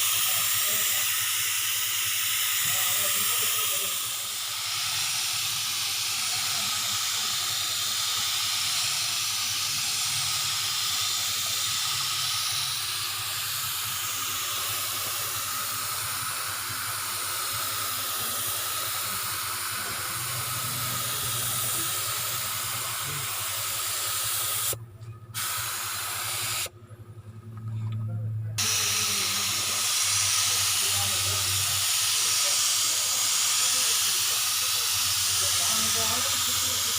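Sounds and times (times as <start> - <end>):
paint spray gun hissing: 0.0 - 24.8, 25.4 - 26.7, 28.6 - 36.9.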